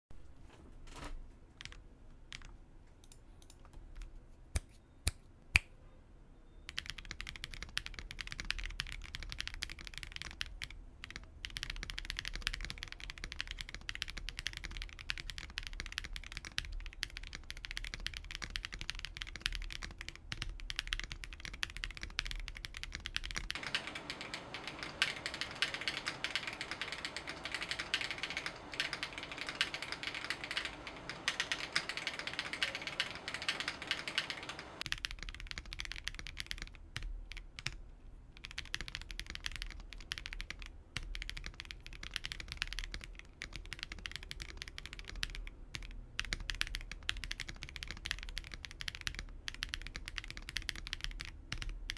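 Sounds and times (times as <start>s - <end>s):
mechanical keyboard typing: 1.6s - 4.1s, 6.7s - 37.8s, 38.4s - 51.9s.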